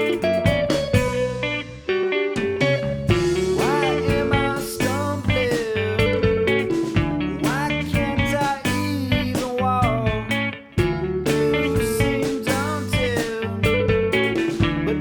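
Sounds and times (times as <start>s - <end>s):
bass guitar: 0.0s - 15.0s
drums: 0.0s - 15.0s
guitar bending sliding notes: 0.0s - 15.0s.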